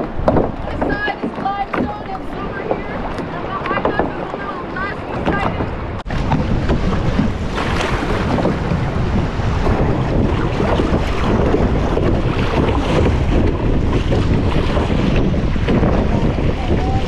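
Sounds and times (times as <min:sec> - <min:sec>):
water sloshing against kayak hull: 0:00.0 - 0:17.0
wind buffeting microphone: 0:00.0 - 0:17.0.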